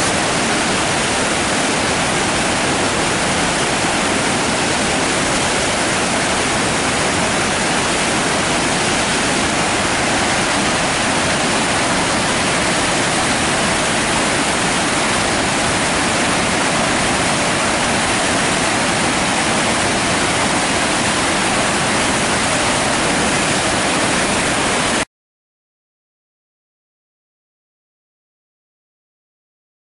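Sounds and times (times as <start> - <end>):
white water rushing: 0.0 - 25.1.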